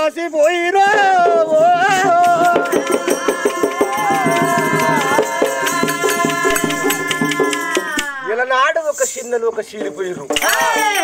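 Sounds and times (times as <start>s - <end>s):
man singing: 0.0s - 9.2s
drum and percussion strokes: 0.0s - 11.0s.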